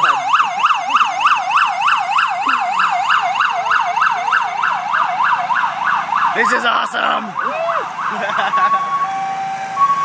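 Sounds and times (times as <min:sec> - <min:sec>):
police siren yelping: 0:00.0 - 0:10.0.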